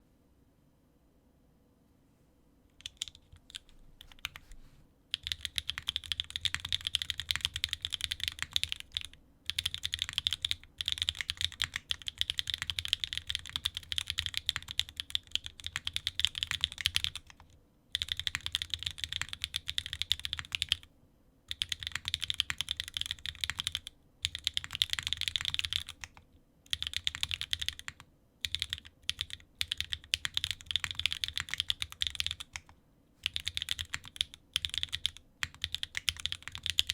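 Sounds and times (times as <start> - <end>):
mechanical keyboard typing: 2.8 - 4.4, 5.1 - 20.9, 21.5 - 36.9.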